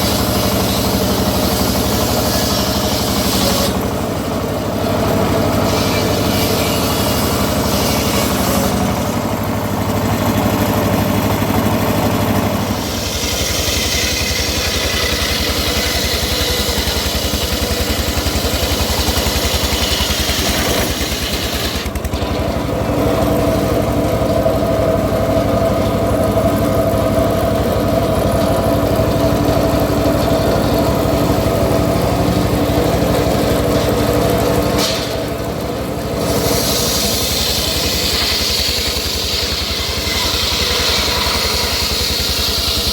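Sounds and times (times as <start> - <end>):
engine-driven sawmill running: 0.0 - 42.9.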